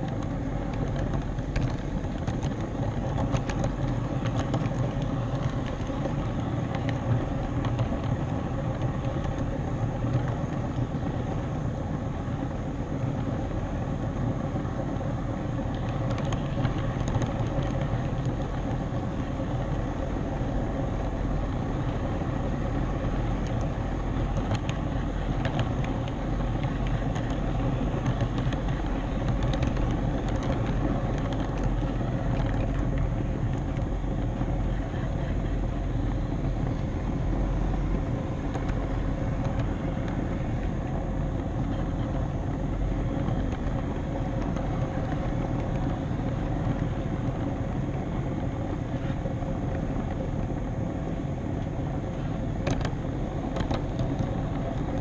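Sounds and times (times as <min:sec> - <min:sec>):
model train rumbling on rails: 0:00.0 - 0:55.0.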